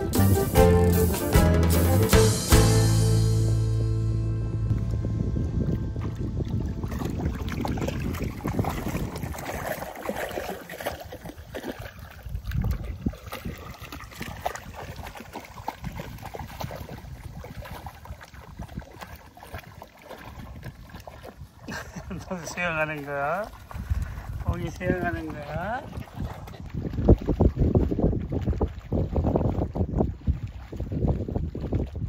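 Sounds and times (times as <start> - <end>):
wind buffeting microphone: 4.4 - 32.0
dogs splashing in water: 6.0 - 32.0.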